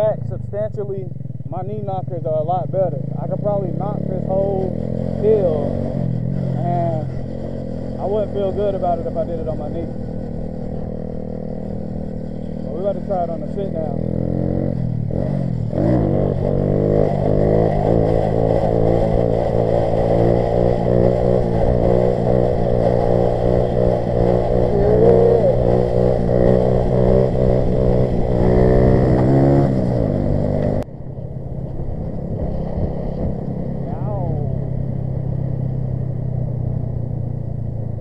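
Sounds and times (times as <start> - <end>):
minibike engine revving: 0.0 - 38.0.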